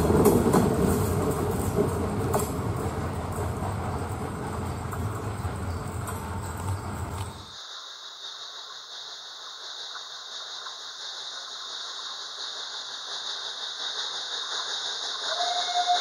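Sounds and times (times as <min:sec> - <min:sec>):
high hiss from rails: 0:00.0 - 0:16.0.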